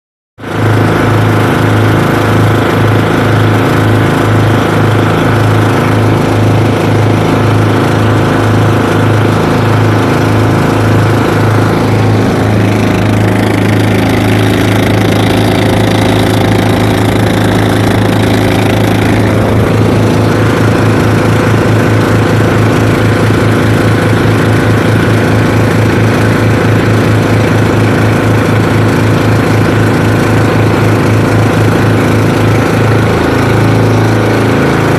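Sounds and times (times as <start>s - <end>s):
boat engines running: 0.4s - 34.9s.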